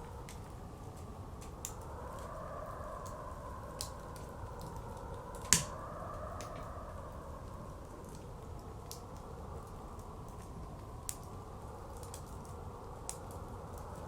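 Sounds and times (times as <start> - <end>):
blizzard wind blowing: 0.0 - 14.0
wood fire crackling and popping: 0.0 - 14.0.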